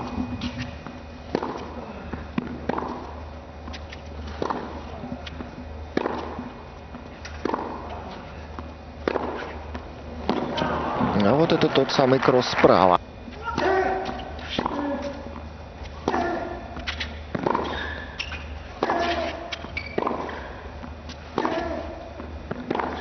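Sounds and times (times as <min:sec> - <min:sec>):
low hum: 0:00.0 - 0:23.0
tennis racket hitting ball: 0:01.3 - 0:11.2, 0:13.4 - 0:23.0.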